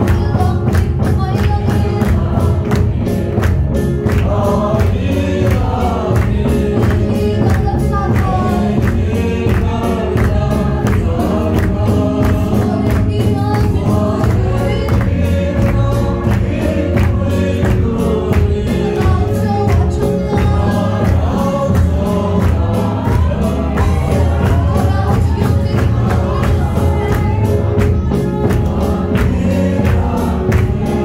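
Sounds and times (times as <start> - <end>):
amplified beat and heavy bass: 0.0 - 31.0
congregation singing a hymn: 0.0 - 31.0.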